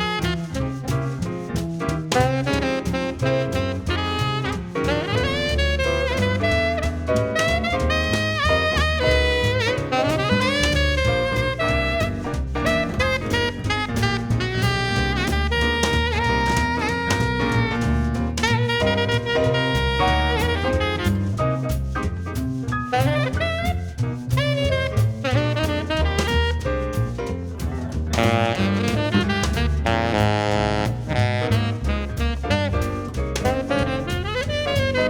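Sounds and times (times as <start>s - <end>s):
jazz music with saxophone: 0.0s - 35.0s.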